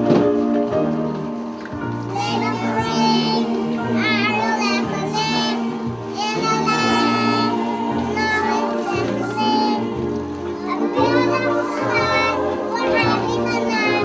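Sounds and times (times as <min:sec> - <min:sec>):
children singing: 0:02.0 - 0:14.0.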